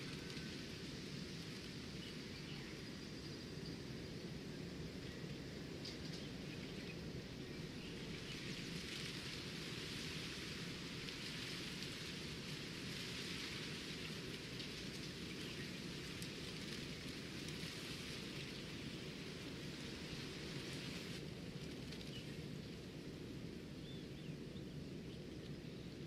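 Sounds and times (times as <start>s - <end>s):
steady rain falling: 0.0s - 3.2s, 4.2s - 23.8s.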